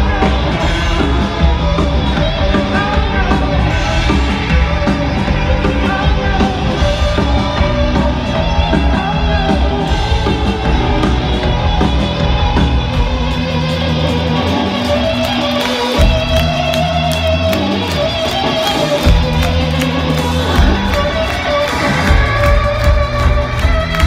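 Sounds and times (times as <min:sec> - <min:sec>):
electric guitars: 0:00.0 - 0:24.0
live rock band playing loudly: 0:00.0 - 0:24.0.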